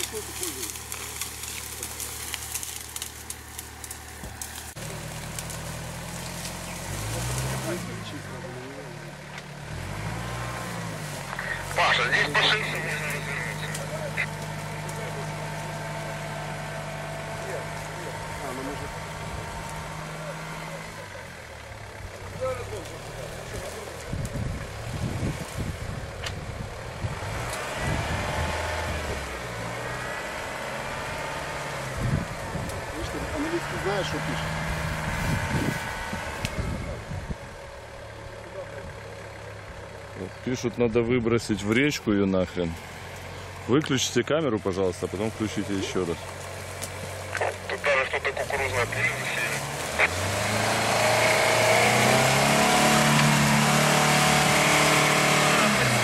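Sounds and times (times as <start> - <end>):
wheels spinning in mud: 0.0 - 48.0
truck engine revving under load: 0.0 - 56.0.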